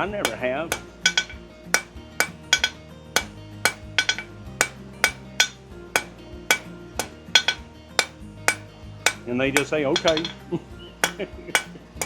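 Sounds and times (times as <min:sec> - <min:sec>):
hammer striking steel on anvil: 0:00.0 - 0:12.0.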